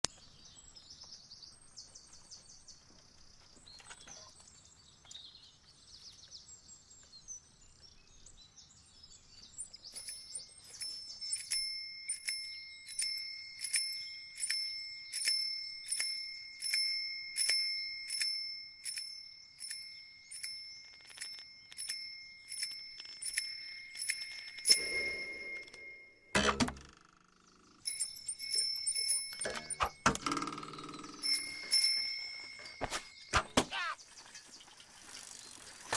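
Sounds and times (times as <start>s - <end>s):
faint high chirping: 0.1s - 35.9s.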